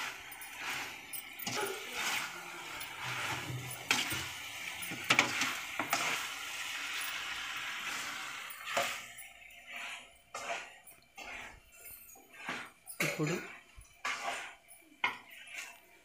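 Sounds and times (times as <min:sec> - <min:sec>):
chicken sizzling in a pan: 0:00.0 - 0:11.6, 0:12.3 - 0:16.0
metal spatula scraping a pan: 0:00.0 - 0:16.0.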